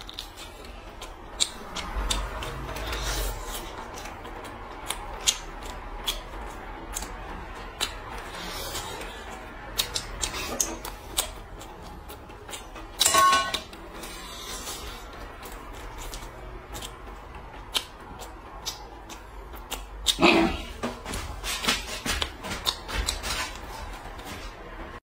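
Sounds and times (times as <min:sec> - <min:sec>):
chewing with wet mouth smacks: 0:00.0 - 0:12.8, 0:14.1 - 0:20.7, 0:22.2 - 0:23.6.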